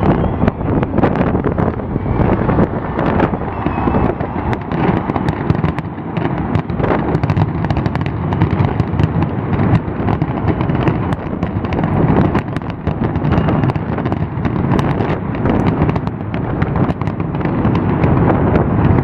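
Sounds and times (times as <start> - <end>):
fireworks booming: 0.0 - 19.0
fireworks crackling pops: 0.0 - 19.0.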